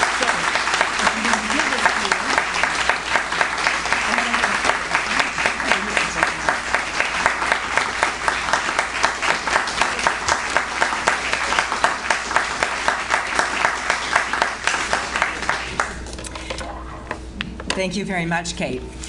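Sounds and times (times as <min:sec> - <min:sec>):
nearby hands clapping: 0:00.0 - 0:16.0
audience applauding: 0:00.0 - 0:16.1.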